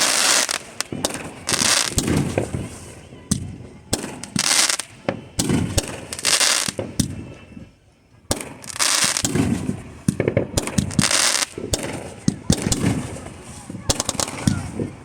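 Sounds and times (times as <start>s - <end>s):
fireworks crackling hiss: 0.0s - 7.7s, 8.3s - 15.0s
fireworks bangs: 0.0s - 15.0s.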